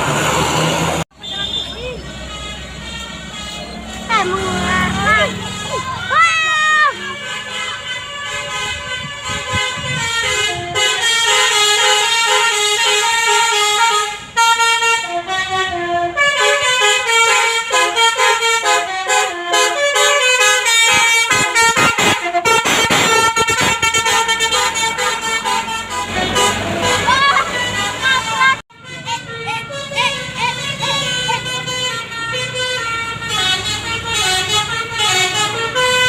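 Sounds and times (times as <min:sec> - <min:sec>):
air horn melody: 0:01.2 - 0:36.0.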